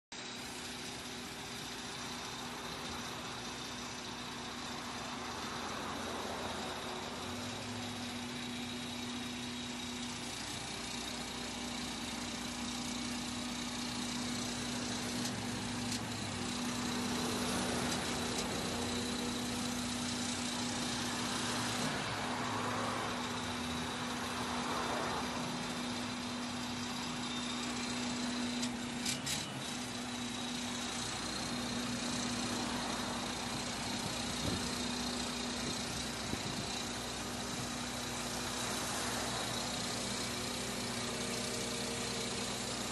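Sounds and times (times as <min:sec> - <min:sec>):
crane engine humming: 0:00.2 - 0:42.9.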